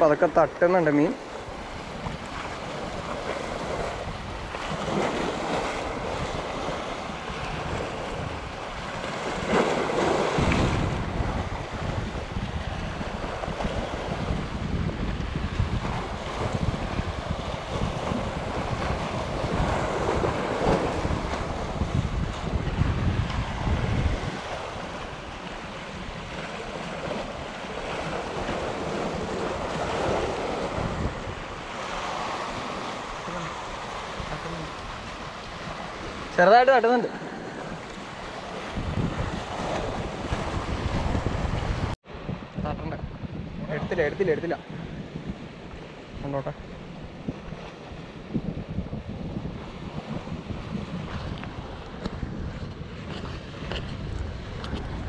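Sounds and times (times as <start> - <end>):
waves breaking against rocks: 0.0 - 42.5, 43.2 - 55.0
wind buffeting microphone: 0.0 - 55.0.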